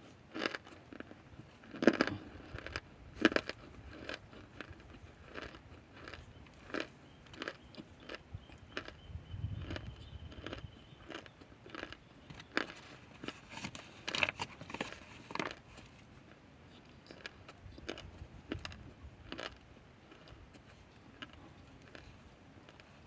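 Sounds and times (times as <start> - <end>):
crunching and chewing: 0.0 - 23.0.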